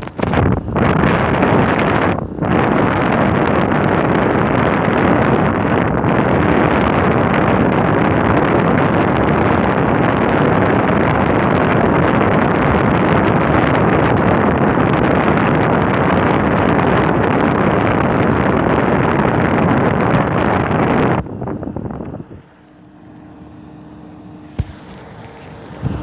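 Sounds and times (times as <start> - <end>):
air conditioner fan blowing: 0.0 - 26.0.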